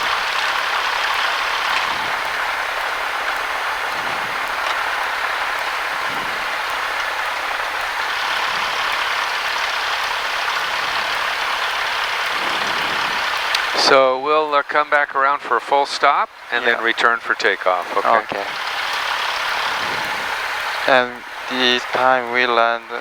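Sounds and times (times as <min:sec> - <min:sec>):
small plane cabin noise: 0:00.0 - 0:23.0.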